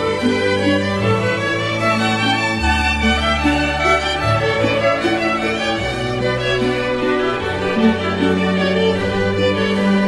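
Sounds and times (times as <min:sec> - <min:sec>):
slow string music: 0:00.0 - 0:10.0.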